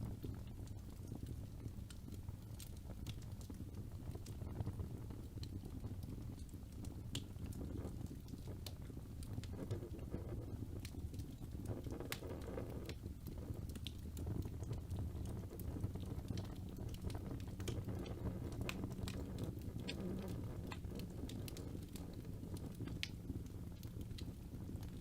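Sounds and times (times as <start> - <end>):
logs popping and crackling: 0.0 - 25.0
wood fire burning: 0.0 - 25.0.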